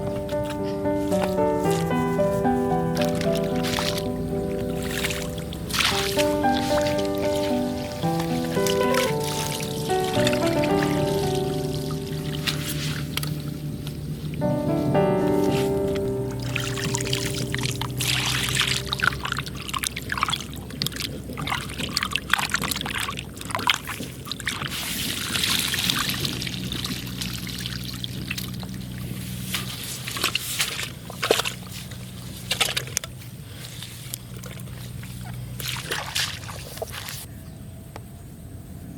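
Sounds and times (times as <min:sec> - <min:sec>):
water pouring and trickling: 0:00.0 - 0:37.3
water splashing and sloshing: 0:00.0 - 0:37.3.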